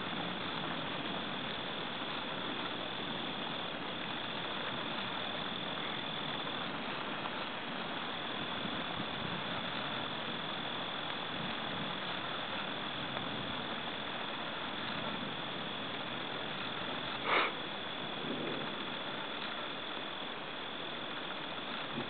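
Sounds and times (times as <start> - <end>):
crickets trilling: 0.0 - 22.0
even hiss: 0.0 - 22.0.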